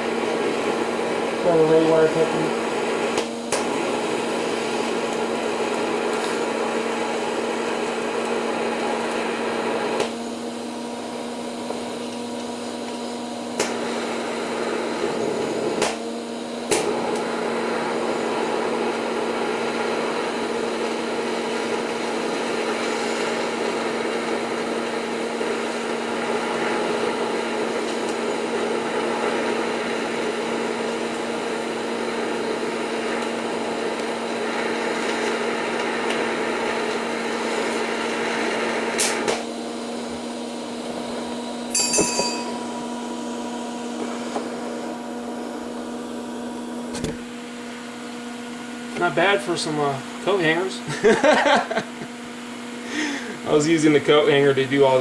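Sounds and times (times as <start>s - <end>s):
welding arc buzzing and hissing: 0.0s - 55.0s.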